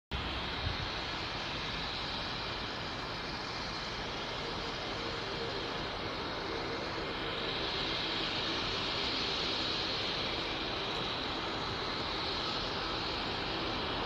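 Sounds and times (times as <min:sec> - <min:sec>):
faint whine: 0:00.1 - 0:14.0
jet engines rushing: 0:00.1 - 0:14.0.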